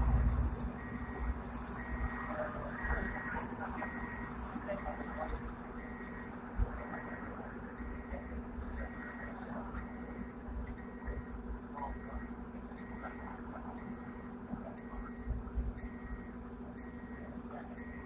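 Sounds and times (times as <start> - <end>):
tram electrical hum: 0.0 - 18.0.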